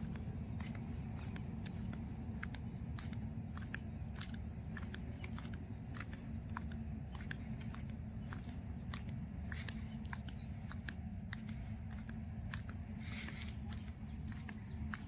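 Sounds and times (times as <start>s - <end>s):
insects chirping: 0.0s - 15.0s
steady low rumble: 0.0s - 15.0s.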